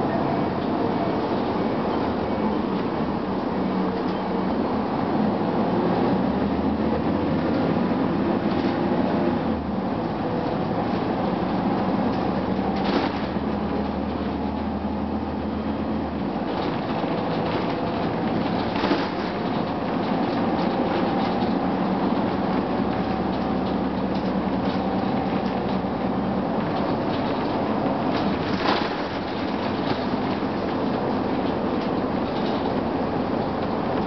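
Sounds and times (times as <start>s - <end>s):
bus diesel engine rumble: 0.0s - 34.0s.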